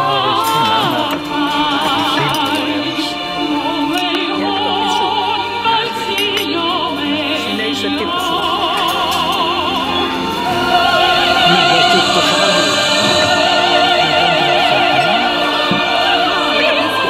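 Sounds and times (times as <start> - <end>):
classical singer with vibrato: 0.0 - 17.0
instrumental accompaniment: 0.0 - 17.0.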